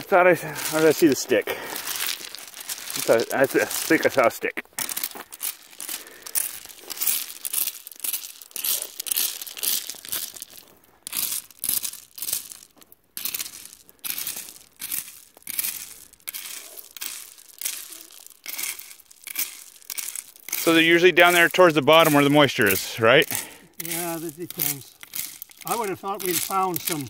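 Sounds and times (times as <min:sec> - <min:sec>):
metal rake scraping gravel: 0:00.0 - 0:27.0.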